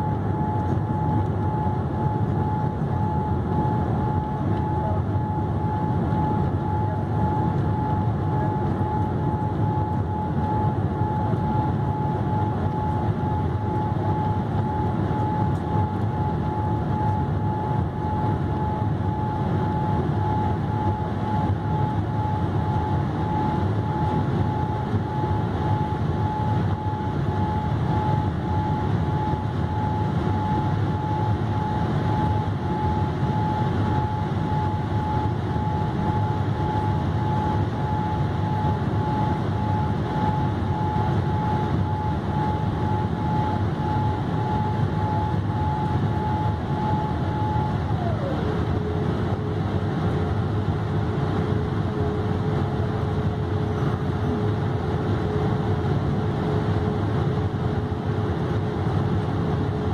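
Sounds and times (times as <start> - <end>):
steady high tone: 0.0 - 54.6
airplane cabin engine and airflow noise: 0.0 - 59.9.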